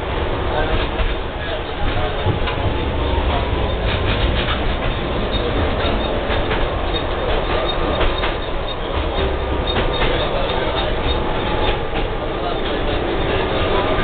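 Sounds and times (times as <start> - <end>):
tram rumbling along track: 0.0 - 14.0
wheels clacking over rail joints: 0.5 - 14.0.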